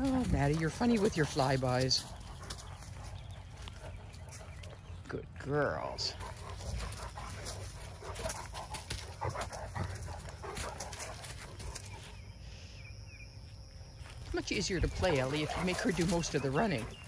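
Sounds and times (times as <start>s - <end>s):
dogs panting: 0.0s - 12.4s, 14.6s - 17.0s.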